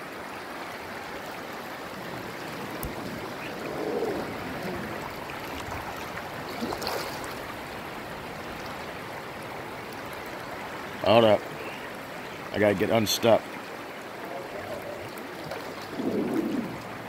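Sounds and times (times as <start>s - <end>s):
river water rushing over rocks: 0.0s - 17.0s.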